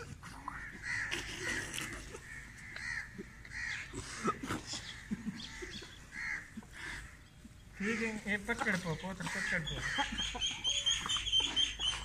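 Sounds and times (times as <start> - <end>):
crows cawing: 0.5 - 1.6, 2.2 - 4.0, 4.8 - 12.0.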